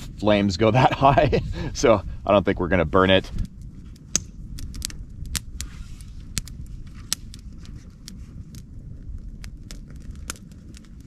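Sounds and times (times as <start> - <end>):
campfire crackling and popping: 0.0 - 11.0
low rumble: 0.0 - 11.0.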